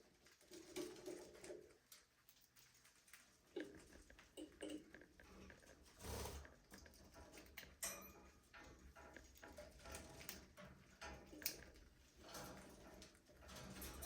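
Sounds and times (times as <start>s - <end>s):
small clicks and scratches: 0.0s - 14.0s.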